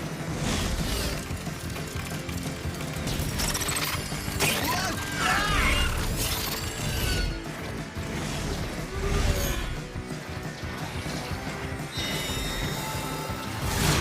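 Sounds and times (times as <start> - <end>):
action score music: 0.0 - 14.0.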